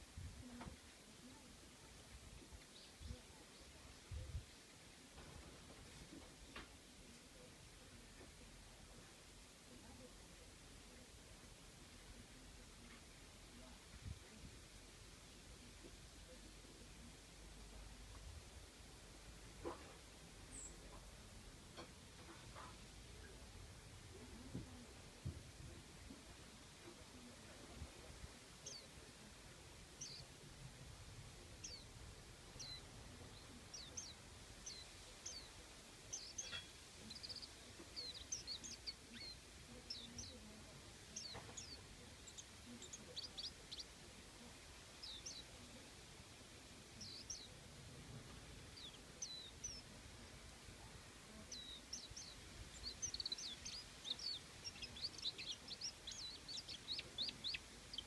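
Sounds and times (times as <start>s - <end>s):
faint outdoor background noise: 0.0s - 58.0s
songbirds chirping: 0.0s - 58.0s.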